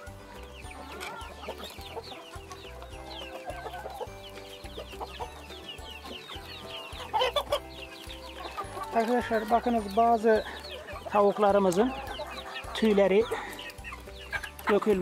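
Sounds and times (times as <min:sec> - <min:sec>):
background music with low beat: 0:00.0 - 0:15.0
chicks peeping: 0:00.0 - 0:15.0
hens clucking: 0:00.0 - 0:15.0.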